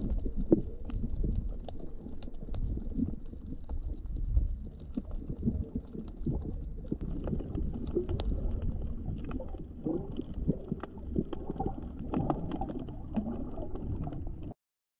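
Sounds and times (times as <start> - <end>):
underwater clicks and pops: 0.0 - 14.5
underwater rumble of moving water: 0.0 - 14.6.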